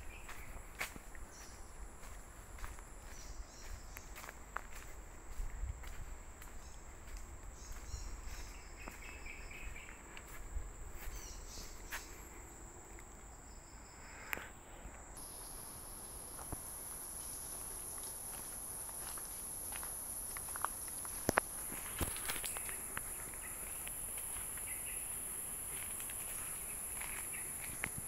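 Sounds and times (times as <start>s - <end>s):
footsteps on dirt trail: 0.0s - 12.3s, 16.1s - 28.0s
insects trilling: 0.0s - 28.0s.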